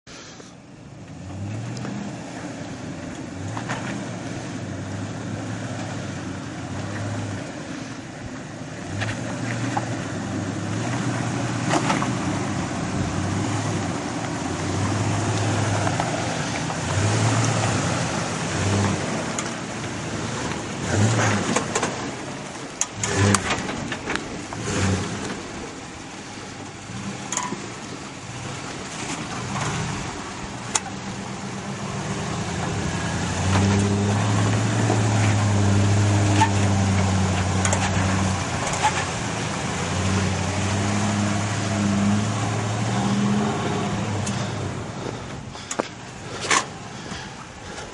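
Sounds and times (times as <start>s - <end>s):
truck engine revving: 0.8s - 47.9s.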